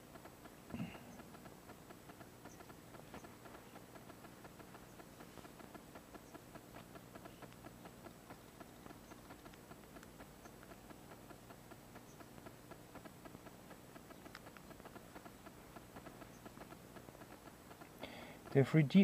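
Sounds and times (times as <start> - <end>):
faint clicks: 0.0 - 19.0
low steady hum: 0.0 - 19.0.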